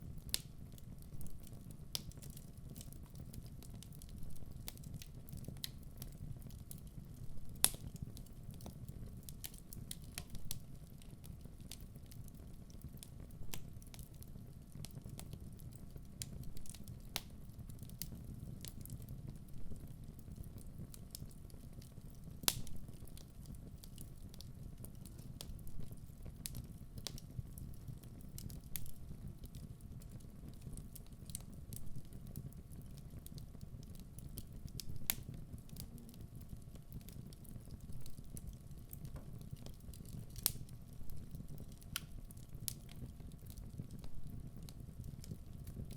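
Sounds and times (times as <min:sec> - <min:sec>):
fire rumbling: 0:00.0 - 0:45.9
logs crackling and popping: 0:00.1 - 0:45.9.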